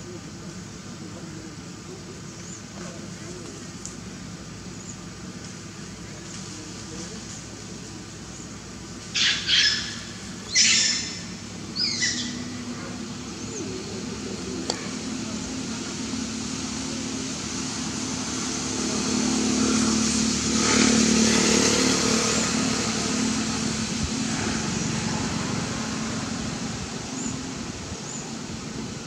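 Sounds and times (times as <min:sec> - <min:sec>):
vehicle engine passing: 0:05.4 - 0:29.0.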